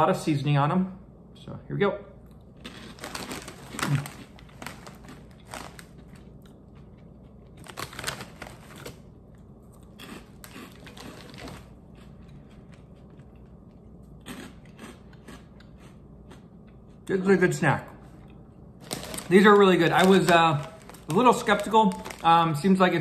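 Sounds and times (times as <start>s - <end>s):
man chewing crunchy chips: 2.3s - 17.1s, 18.1s - 22.4s.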